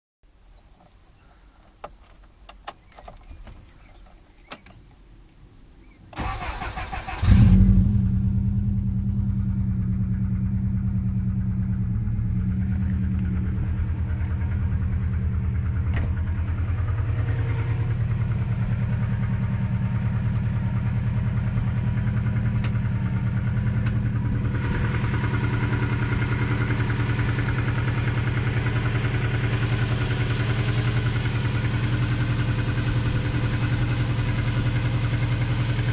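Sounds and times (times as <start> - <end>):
car engine starting and idling: 5.8 - 35.9.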